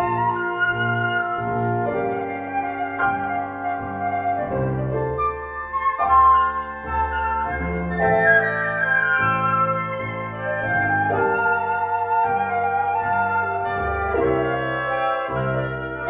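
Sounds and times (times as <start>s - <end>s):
flutes playing melody: 0.0s - 16.0s
piano accompaniment: 0.0s - 16.0s.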